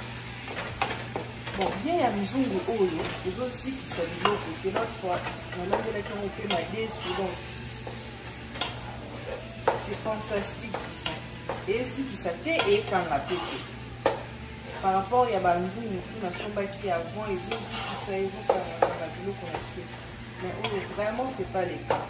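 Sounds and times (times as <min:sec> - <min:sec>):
vegetables sizzling in a pot: 0:00.0 - 0:22.0.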